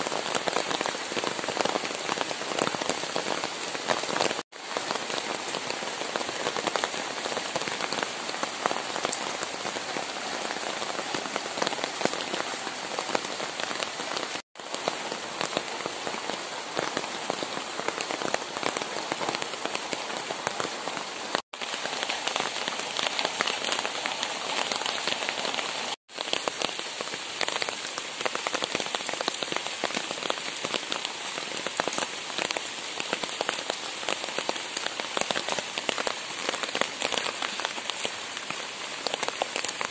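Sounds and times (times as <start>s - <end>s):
rain pattering on shrubs: 0.0s - 39.9s.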